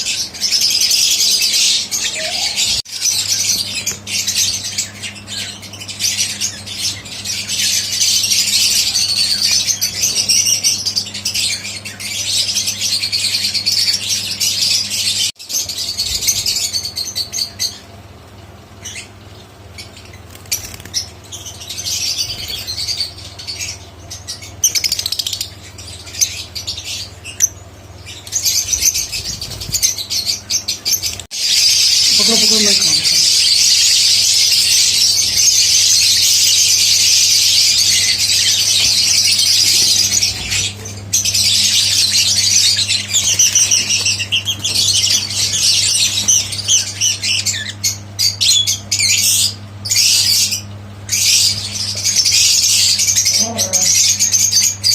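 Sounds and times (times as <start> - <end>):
lovebirds chattering and squawking: 0.0 - 54.9.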